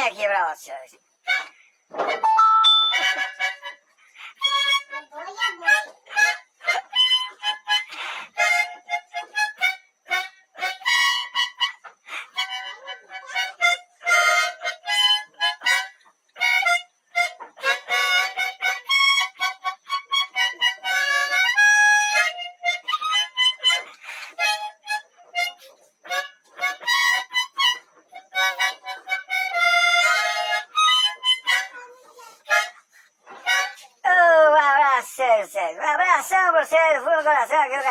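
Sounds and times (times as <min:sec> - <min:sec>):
solo harmonica: 0:01.2 - 0:33.9.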